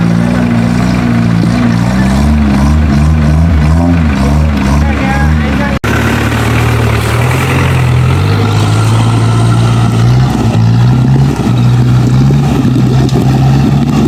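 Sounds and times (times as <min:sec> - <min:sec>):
engine droning under load: 0:00.0 - 0:14.0.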